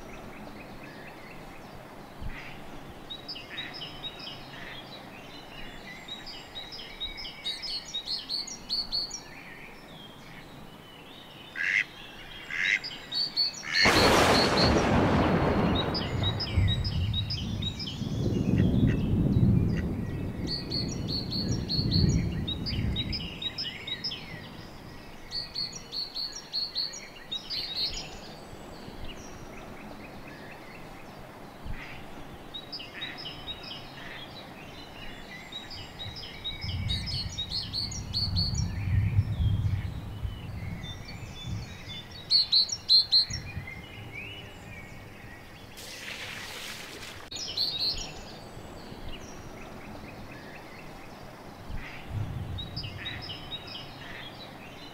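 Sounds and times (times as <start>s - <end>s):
songbirds chirping and trilling: 0.0s - 54.9s.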